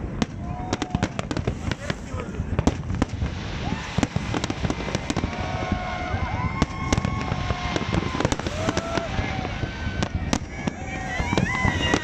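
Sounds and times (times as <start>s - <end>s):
firework bangs and crackling: 0.0s - 12.0s
whistling fireworks: 0.0s - 12.0s.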